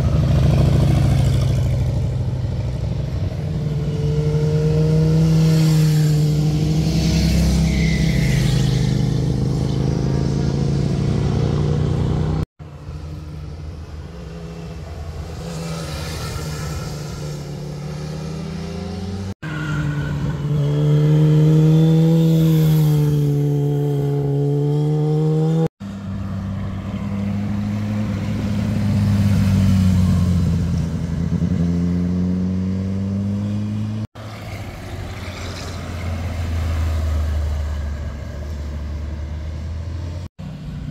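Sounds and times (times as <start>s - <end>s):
motorcycles and cars passing: 0.0s - 40.9s.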